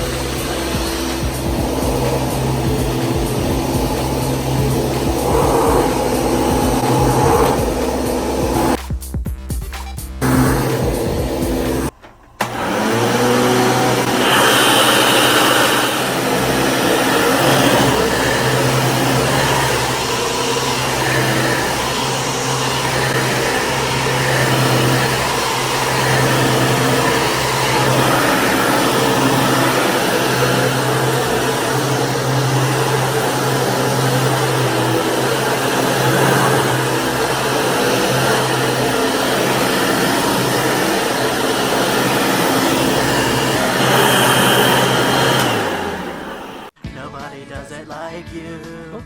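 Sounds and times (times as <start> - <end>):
vacuum cleaner motor hum: 0.0 - 8.8, 10.2 - 46.7.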